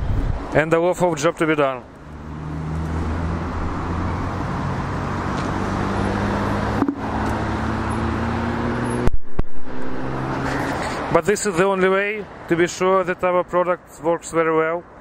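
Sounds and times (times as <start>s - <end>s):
passing vehicle engines droning: 0.0s - 15.0s
road traffic tyre noise: 0.0s - 15.0s.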